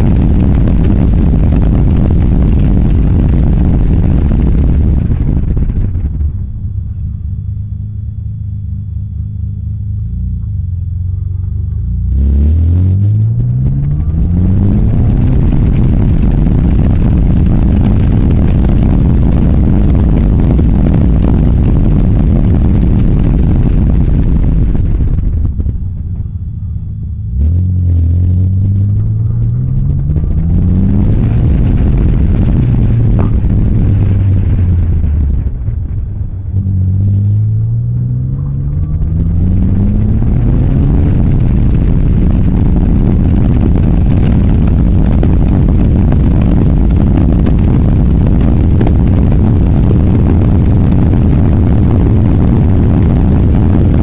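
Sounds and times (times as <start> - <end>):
car engine revving: 0.0 - 54.0
wind noise on microphone: 0.0 - 54.0.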